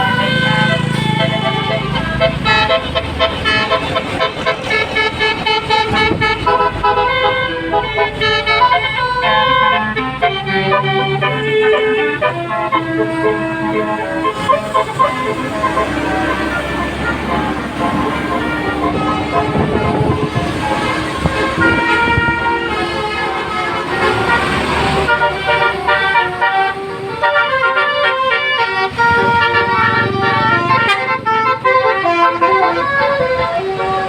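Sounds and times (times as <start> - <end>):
multi-tone musical bus horn: 0.0 - 34.0
vehicle engine noise: 0.0 - 34.0.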